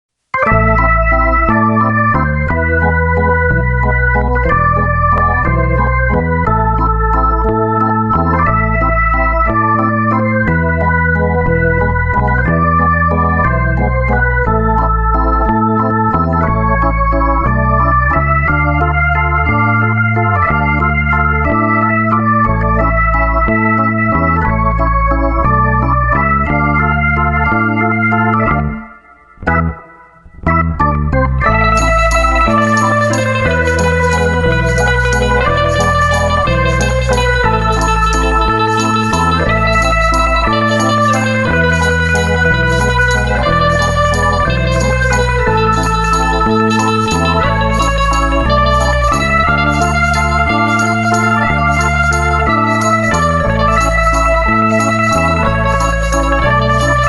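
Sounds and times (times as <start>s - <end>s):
electronic organ chords: 0.3s - 57.0s
bass line: 0.4s - 57.0s.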